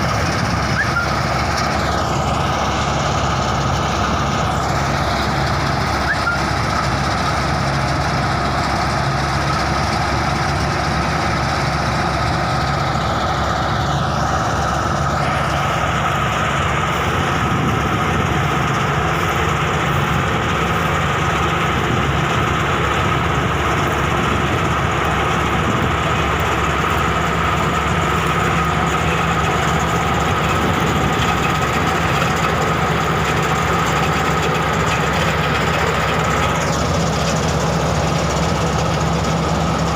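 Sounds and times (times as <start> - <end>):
constant high whine: 0.0 - 39.9
straw chopping machine engine: 0.0 - 39.9.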